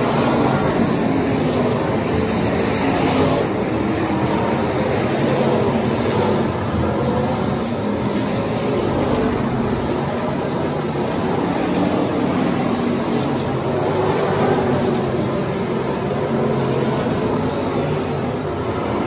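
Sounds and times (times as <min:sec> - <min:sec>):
race car engines roaring: 0:00.0 - 0:19.0.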